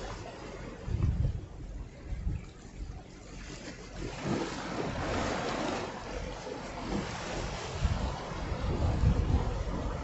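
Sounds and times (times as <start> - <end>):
ocean surf washing: 0.0 - 10.0
wind rumbling on microphone: 0.0 - 10.0.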